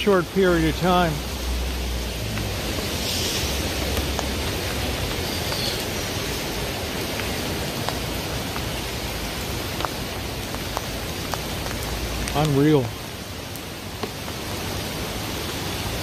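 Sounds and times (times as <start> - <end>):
rain hissing on wet pavement: 0.0 - 16.0.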